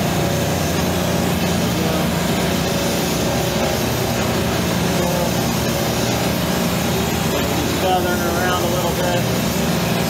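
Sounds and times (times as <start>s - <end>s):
refrigeration compressor humming: 0.0s - 10.0s
torch flame hissing: 0.0s - 10.0s.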